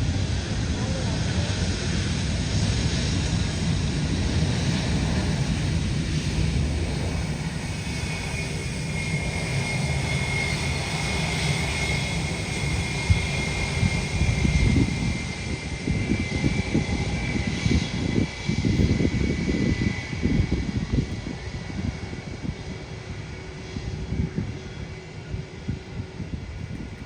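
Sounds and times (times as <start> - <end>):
jet engines whining: 0.0 - 27.0.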